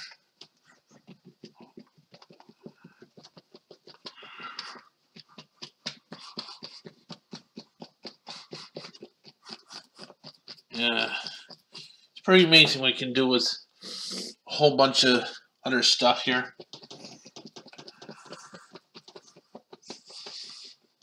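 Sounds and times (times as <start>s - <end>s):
brush tapping on canvas: 0.0s - 13.0s, 16.0s - 21.0s
bristles scrubbing canvas: 0.0s - 21.0s.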